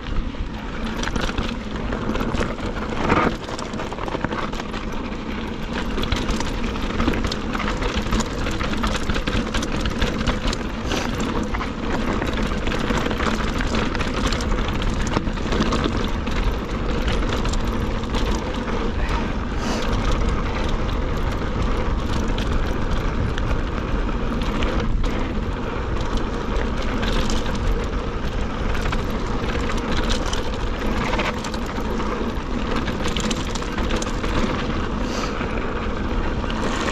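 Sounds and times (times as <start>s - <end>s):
bike rattling and clicking: 0.0s - 36.9s
tyres crunching on gravel: 0.0s - 36.9s.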